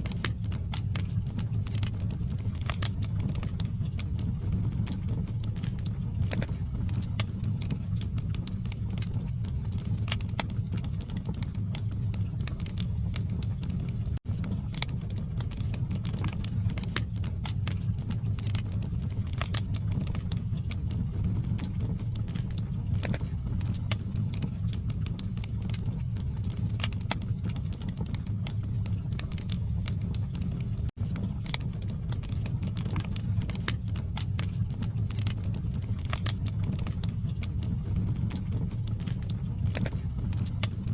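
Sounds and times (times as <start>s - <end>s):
fire burning rumble: 0.0s - 40.9s
wood crackling and popping: 0.0s - 40.9s.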